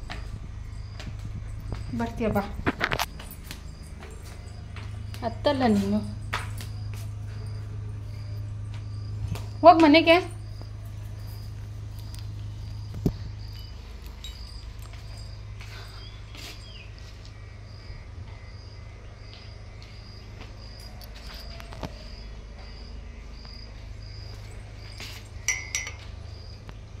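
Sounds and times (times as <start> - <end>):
cricket chirping: 0.0 - 27.0
low steady rumble: 0.0 - 27.0.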